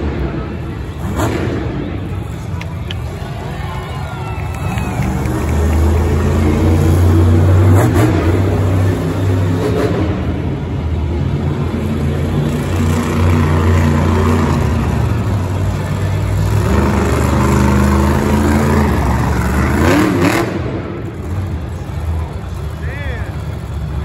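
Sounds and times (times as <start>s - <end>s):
monster truck engine revving: 0.0s - 3.2s, 4.4s - 24.0s.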